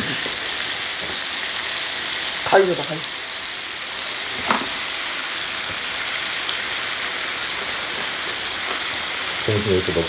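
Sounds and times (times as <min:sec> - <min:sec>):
steaks sizzling on a grill: 0:00.0 - 0:10.0.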